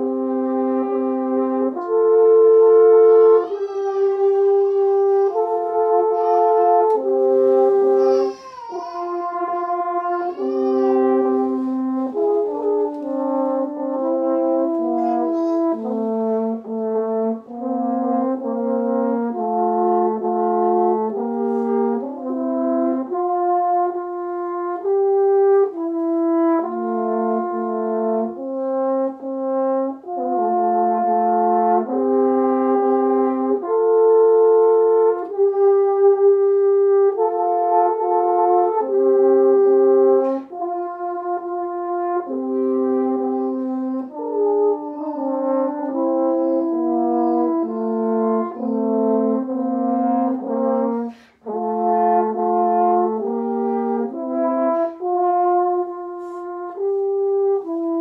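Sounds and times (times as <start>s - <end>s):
french horns playing a duet: 0.0s - 58.0s.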